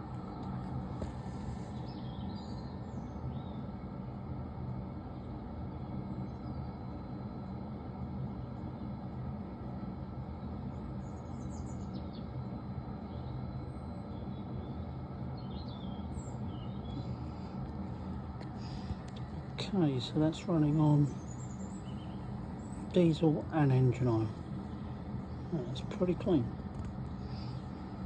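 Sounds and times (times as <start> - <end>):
diesel heater running: 0.0 - 28.0.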